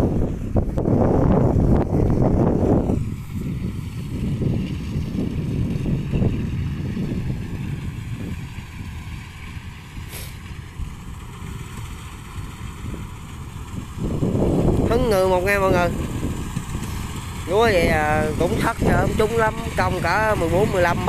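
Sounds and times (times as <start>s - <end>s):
combine harvester running: 0.0s - 21.0s
wind rumble on microphone: 0.0s - 21.0s.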